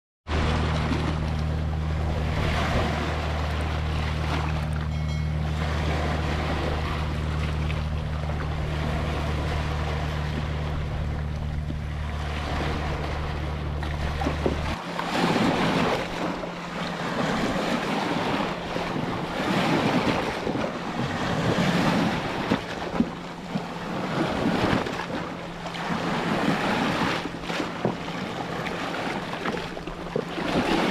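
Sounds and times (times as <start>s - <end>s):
ocean surf breaking: 0.3s - 30.9s
steady low hum: 0.3s - 30.9s.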